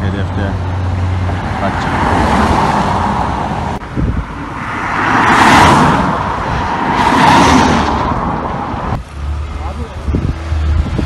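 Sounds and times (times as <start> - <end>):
cars passing on a road: 0.0 - 11.0.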